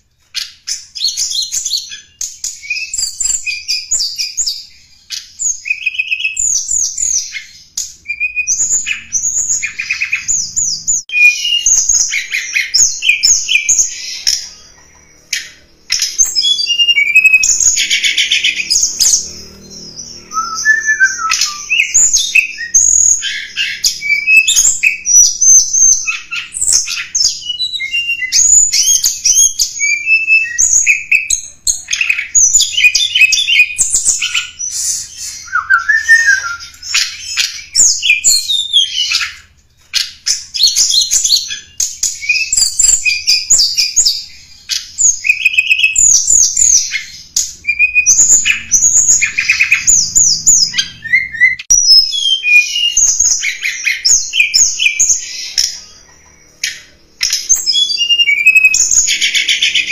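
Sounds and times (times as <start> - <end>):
bird chirps trills and whistles: 0.0 - 59.9.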